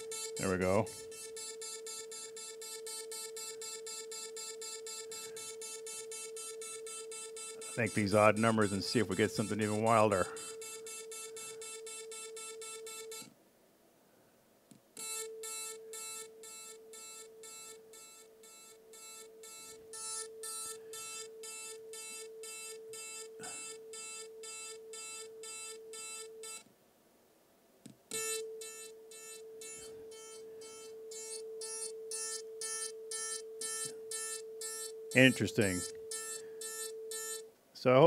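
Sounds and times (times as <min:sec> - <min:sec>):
synthesized buzzy hum tone: 0:00.0 - 0:13.4, 0:15.0 - 0:26.7, 0:28.1 - 0:38.0.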